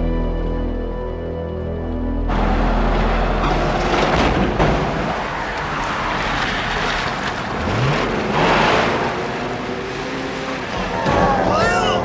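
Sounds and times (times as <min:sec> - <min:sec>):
car engine revving: 0:02.3 - 0:12.0
water spray and tyre noise: 0:02.4 - 0:12.0.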